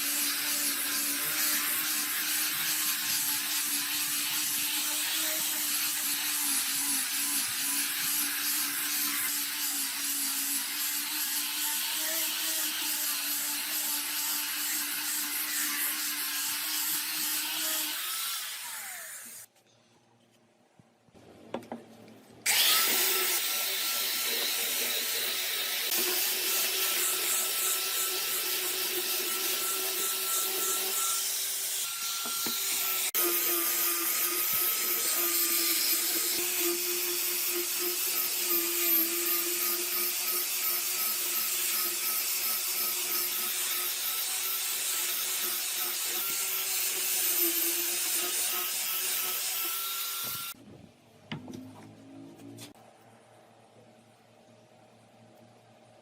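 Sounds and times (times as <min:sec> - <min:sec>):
power tool whining on wood: 0:00.0 - 0:19.5, 0:22.5 - 0:50.6.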